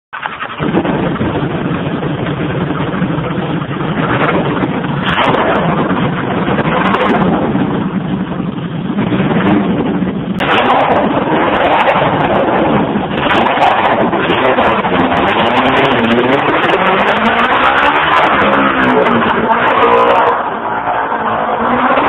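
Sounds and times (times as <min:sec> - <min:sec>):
motorcycle engine revving: 0:00.2 - 0:22.0.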